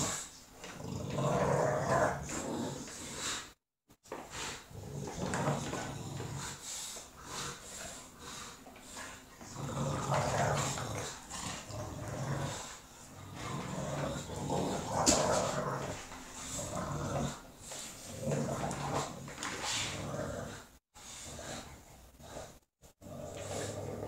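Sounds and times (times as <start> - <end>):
dogs growling in play: 0.0 - 3.6, 4.2 - 24.0.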